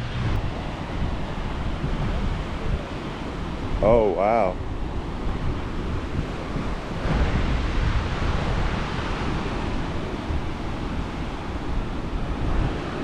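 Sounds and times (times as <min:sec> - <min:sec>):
sea surf washing ashore: 0:00.0 - 0:13.0
wind buffeting microphone: 0:00.0 - 0:13.0.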